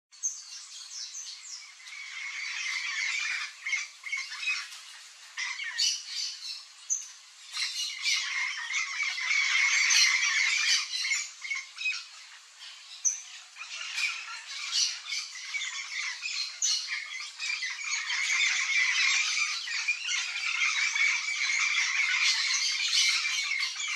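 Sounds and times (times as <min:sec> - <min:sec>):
parrots squawking and chattering: 0:01.6 - 0:23.9.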